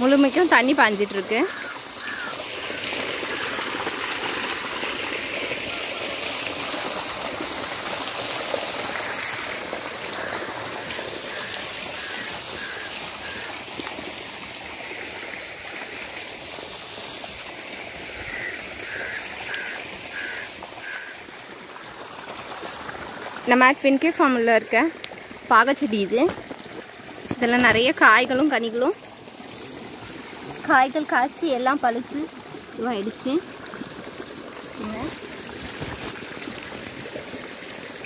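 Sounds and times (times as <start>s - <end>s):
water flowing and trickling: 0.0s - 38.0s.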